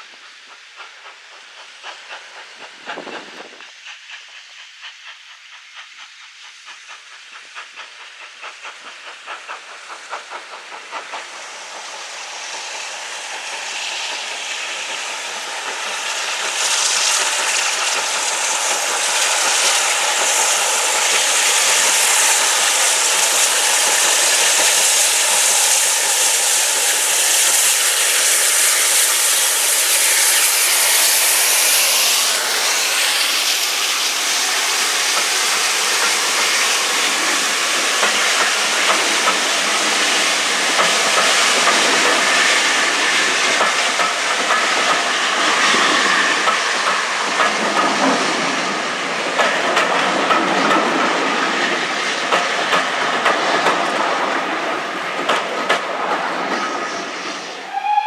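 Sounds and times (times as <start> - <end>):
train wheels clattering on rails: 0.0 - 57.6
steam locomotive hissing: 0.0 - 58.0.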